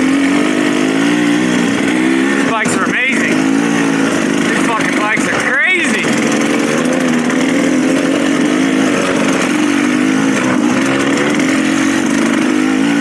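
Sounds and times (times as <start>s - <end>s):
dirt bike engine running: 0.0s - 13.0s
wind and trail noise: 0.0s - 13.0s.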